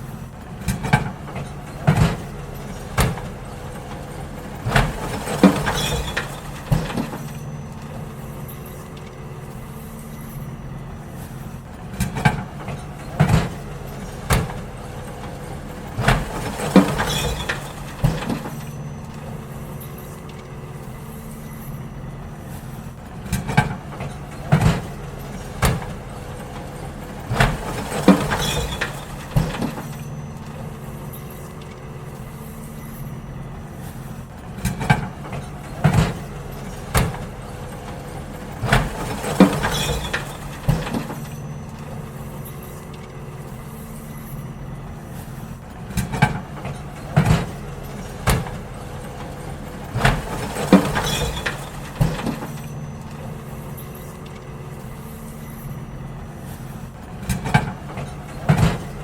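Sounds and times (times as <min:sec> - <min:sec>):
bins clanking and banging: 0:00.0 - 0:59.0
garbage truck engine running: 0:00.0 - 0:59.0.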